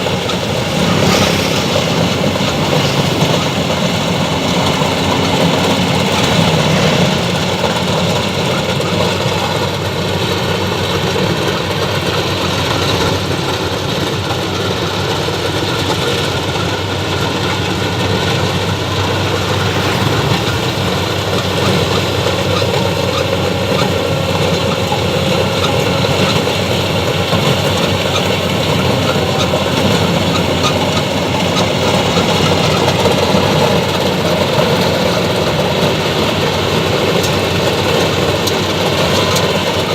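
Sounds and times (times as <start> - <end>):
combine harvester engine: 0.0 - 39.9
threshing machinery running: 0.0 - 39.9.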